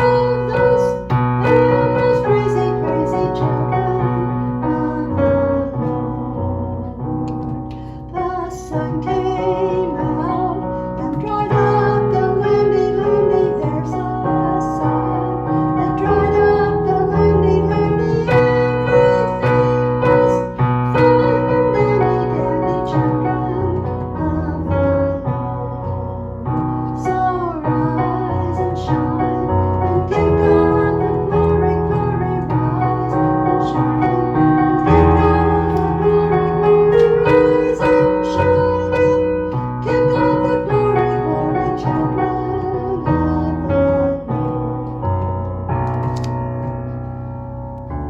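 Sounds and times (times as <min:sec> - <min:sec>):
keyboard music with slow melody: 0:00.0 - 0:48.0.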